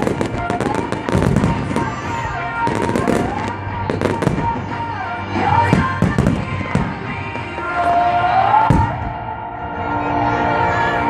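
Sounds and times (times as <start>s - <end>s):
fireworks bangs and crackles: 0.0s - 9.2s
music playing: 0.0s - 11.0s.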